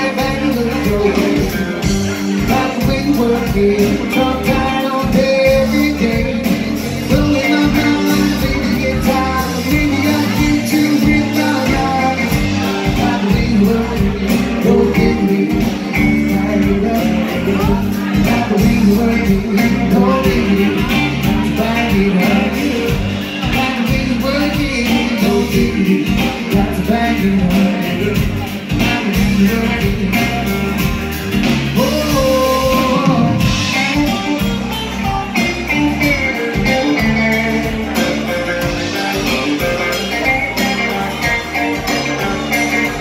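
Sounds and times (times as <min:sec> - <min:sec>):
lead vocal singing: 0:00.0 - 0:30.6, 0:31.4 - 0:34.7, 0:35.3 - 0:43.0
acoustic guitar: 0:00.0 - 0:43.0
bass guitar: 0:00.0 - 0:43.0
drums: 0:00.0 - 0:43.0
electric guitar: 0:00.0 - 0:43.0.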